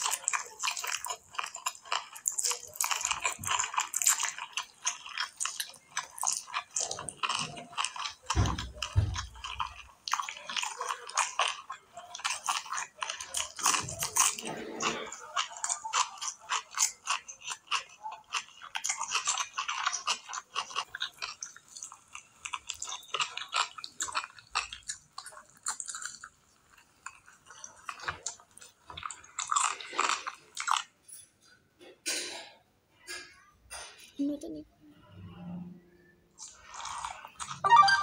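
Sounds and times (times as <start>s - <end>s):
chewing food: 0.0s - 31.6s, 36.3s - 38.0s.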